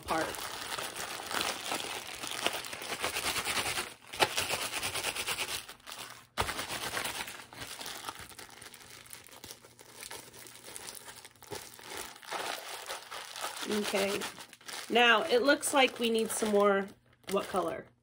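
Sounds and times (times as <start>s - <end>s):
plastic bag crinkling: 0.0s - 17.9s.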